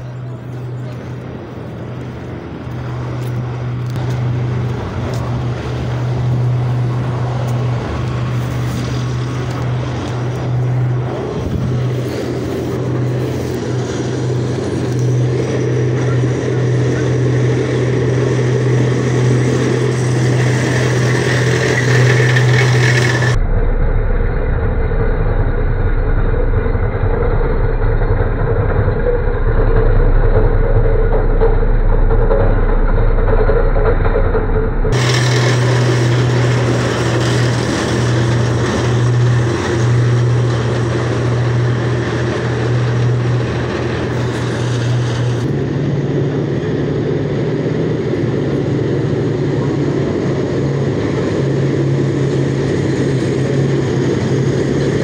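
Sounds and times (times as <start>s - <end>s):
heavy vehicle engine humming: 0.0s - 55.0s
tank engine rumbling past: 0.0s - 55.0s.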